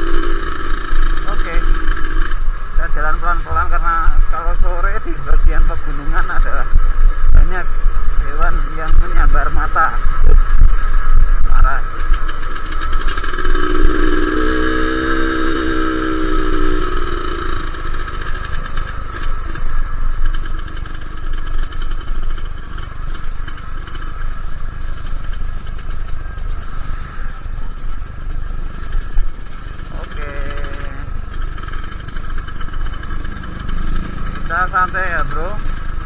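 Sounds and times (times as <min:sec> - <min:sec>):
pitched engine note: 0:00.0 - 0:06.6, 0:11.4 - 0:36.0
two-stroke motorcycle engine: 0:00.0 - 0:36.0
wind rumbling on microphone: 0:00.0 - 0:36.0.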